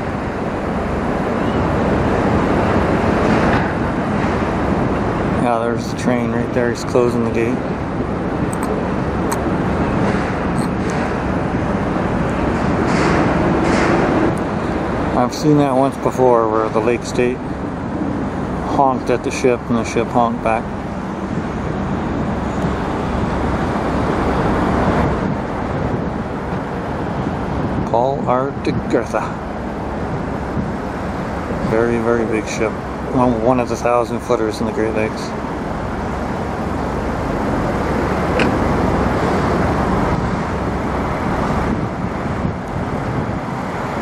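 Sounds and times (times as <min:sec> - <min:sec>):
road traffic: 0:00.0 - 0:44.0.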